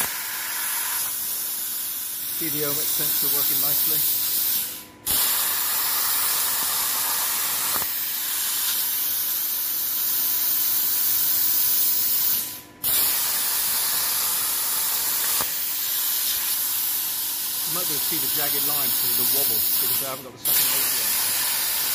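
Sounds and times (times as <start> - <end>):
plasma cutter hissing: 0.0 - 21.9.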